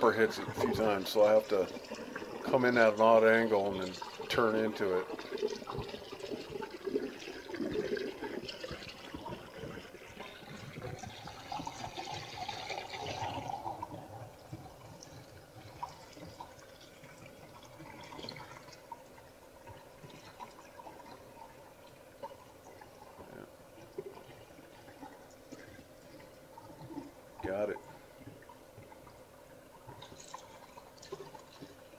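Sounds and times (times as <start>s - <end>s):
water trickling over rocks: 0.0s - 31.9s.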